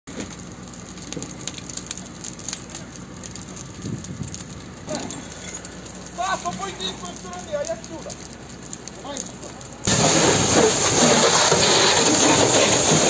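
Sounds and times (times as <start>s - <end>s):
fire crackling and popping: 0.1s - 13.0s.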